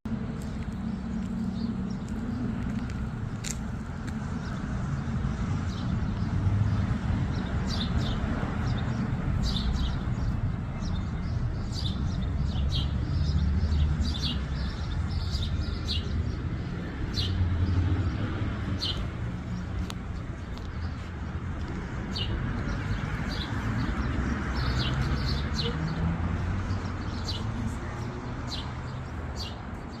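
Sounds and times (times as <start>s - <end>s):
small birds chirping: 0.1s - 30.0s.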